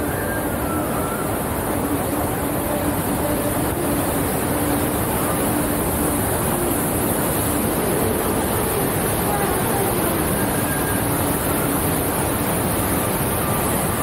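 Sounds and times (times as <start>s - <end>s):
turbulent water rushing: 0.0s - 14.0s.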